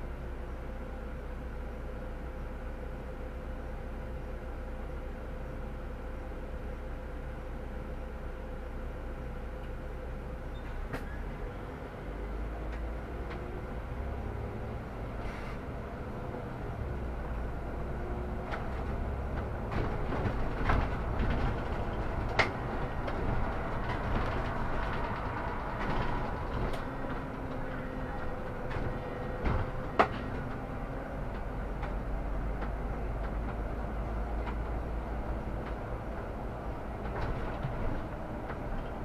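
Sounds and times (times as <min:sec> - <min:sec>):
bus drivetrain and tyre rumble: 0:00.0 - 0:39.0.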